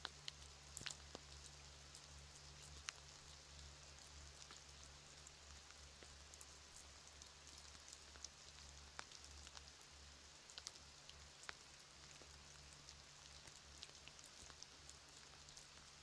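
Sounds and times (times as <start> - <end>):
raindrop ticks: 0.0 - 9.8, 10.5 - 16.0
light rain on a pond: 0.0 - 16.0.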